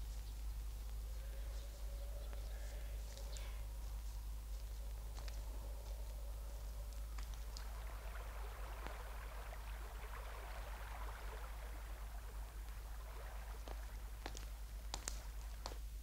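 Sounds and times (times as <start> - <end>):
low steady hum: 0.0 - 16.0
water trickling in a stream: 0.1 - 16.0.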